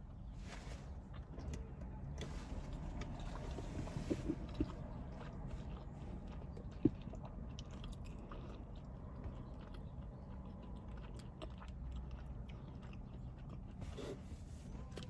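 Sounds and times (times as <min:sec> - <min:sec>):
person chewing food: 0:02.7 - 0:15.0.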